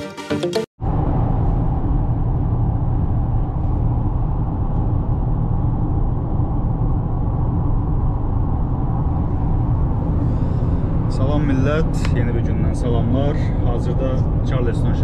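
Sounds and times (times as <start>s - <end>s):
road and engine rumble in car: 0.8s - 15.0s.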